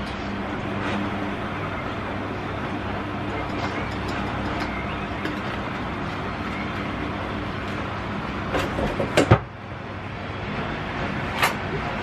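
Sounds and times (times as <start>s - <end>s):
bread machine motor kneading: 0.0s - 12.0s.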